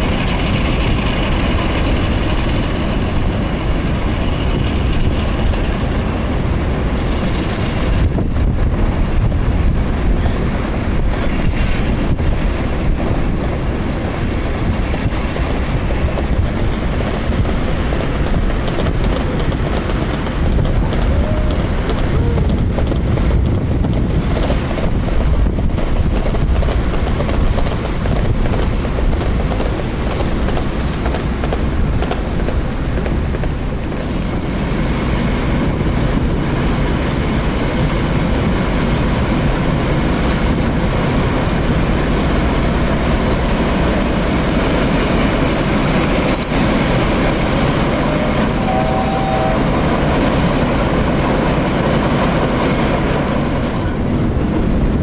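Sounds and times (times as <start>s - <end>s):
diesel locomotive engine running: 0.0s - 55.0s
wind rumbling on microphone: 0.0s - 55.0s.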